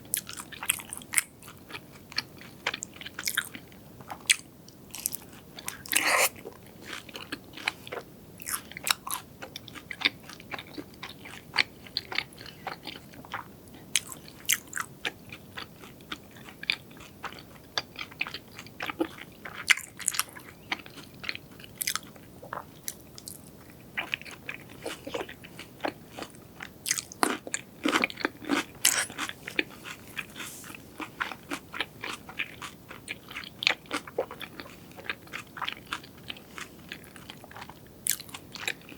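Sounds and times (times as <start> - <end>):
person chewing crunchy food: 0.1 - 38.9.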